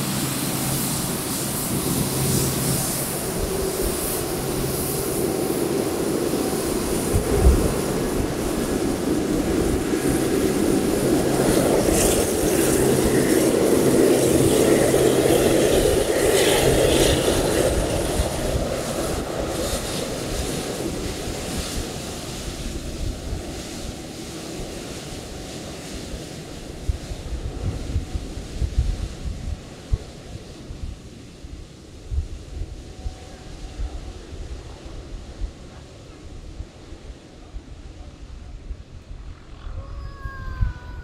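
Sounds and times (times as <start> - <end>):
jet engines rumbling with whine: 0.0 - 41.0.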